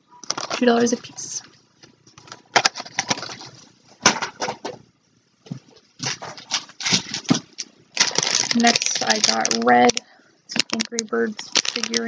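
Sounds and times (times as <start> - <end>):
rustling of packages with knocks: 2.2 - 12.0.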